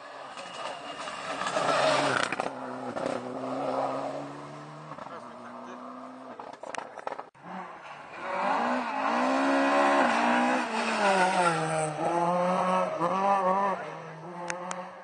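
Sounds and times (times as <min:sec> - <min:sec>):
car engine at high revs passing: 0:00.0 - 0:06.6, 0:07.4 - 0:15.0.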